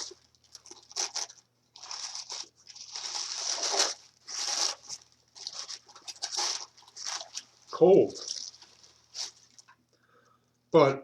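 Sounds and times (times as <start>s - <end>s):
packaging rustling and crinkling: 0.0s - 9.8s.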